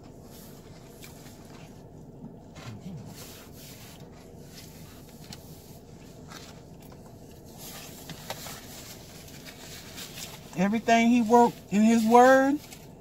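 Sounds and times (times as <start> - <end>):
car interior hum: 0.0 - 13.0.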